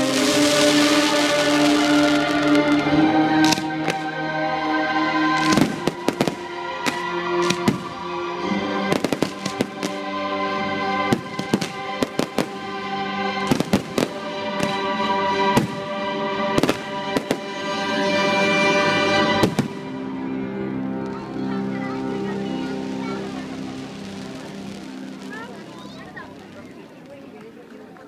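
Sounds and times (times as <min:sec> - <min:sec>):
fireworks bangs and crackles: 0:00.0 - 0:04.2, 0:05.3 - 0:08.0, 0:08.8 - 0:10.1, 0:11.0 - 0:20.0, 0:21.0 - 0:28.0
music: 0:00.0 - 0:28.0.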